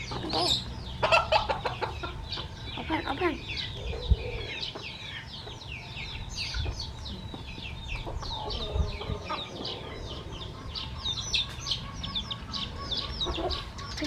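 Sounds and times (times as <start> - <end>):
chicks cheeping: 0.0 - 14.0.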